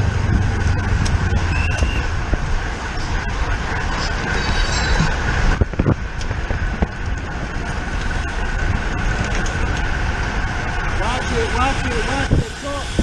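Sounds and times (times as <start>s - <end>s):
thin steady whine: 0.0s - 13.0s
wind rushing over microphone: 0.0s - 13.0s.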